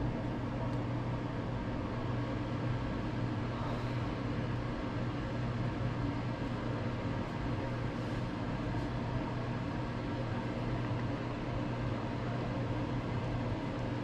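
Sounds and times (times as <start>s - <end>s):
fan or motor hum: 0.0s - 14.0s.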